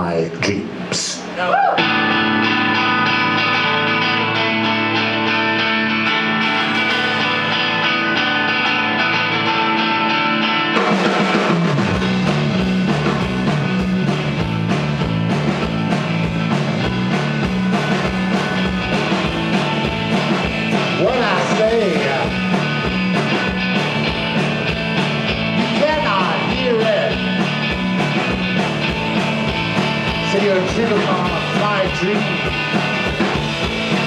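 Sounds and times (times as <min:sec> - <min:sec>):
bass guitar: 0:01.2 - 0:34.0
electric guitar: 0:01.2 - 0:34.0
rock drums beat: 0:01.8 - 0:34.0.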